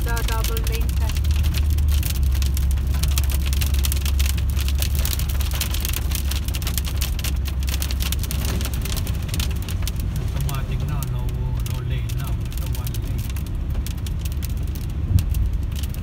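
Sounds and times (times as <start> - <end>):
rain and hail on car: 0.0 - 16.0
road and engine rumble: 0.0 - 16.0.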